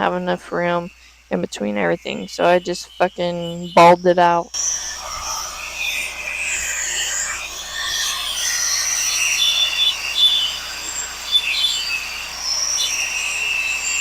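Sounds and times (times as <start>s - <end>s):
crickets and insects chirring: 0.0s - 14.0s
whistled chirps: 0.6s - 14.0s.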